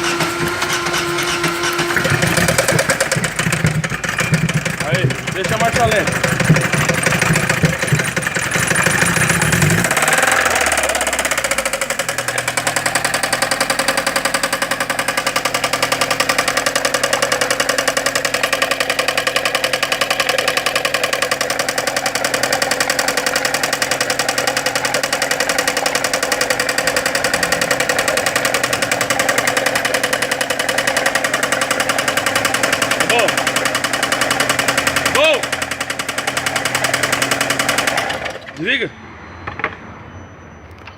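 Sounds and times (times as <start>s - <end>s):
fast ticking engine knock: 0.0s - 38.5s
car engine idling: 0.0s - 38.6s.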